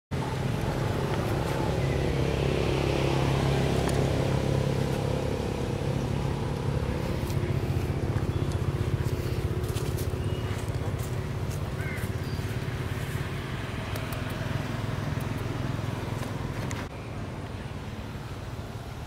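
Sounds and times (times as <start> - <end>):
motor engine humming: 0.1 - 19.0.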